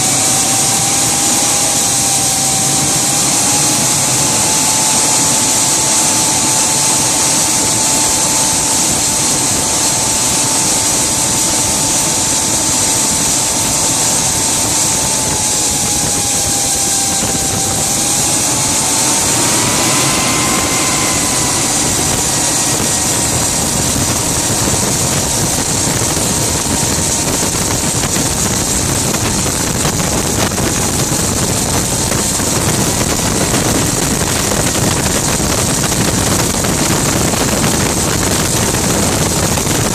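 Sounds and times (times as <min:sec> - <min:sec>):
gas turbine engine whine: 0:00.0 - 0:39.9
loud rushing hiss: 0:00.0 - 0:39.9.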